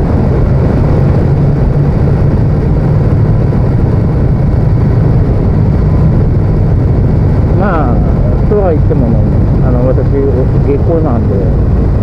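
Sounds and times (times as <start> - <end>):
motorcycle engine cruising: 0.0 - 12.0
rushing wind noise: 0.0 - 12.0.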